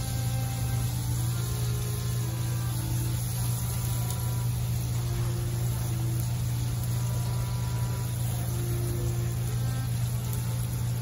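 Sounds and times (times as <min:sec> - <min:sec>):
sauce simmering in a skillet: 0:00.0 - 0:11.0
steady low hum: 0:00.0 - 0:11.0.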